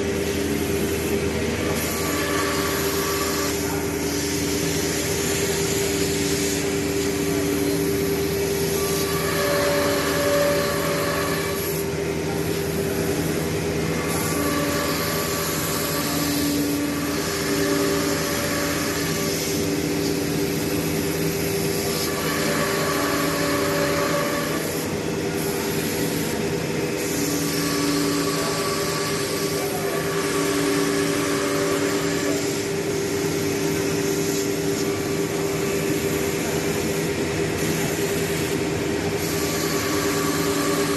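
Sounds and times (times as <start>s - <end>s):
cnc router running: 0.0s - 40.9s.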